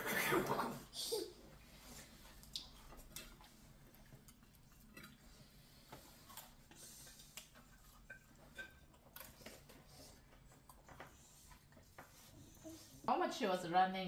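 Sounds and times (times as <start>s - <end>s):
clicks and taps of people eating: 1.5s - 12.9s.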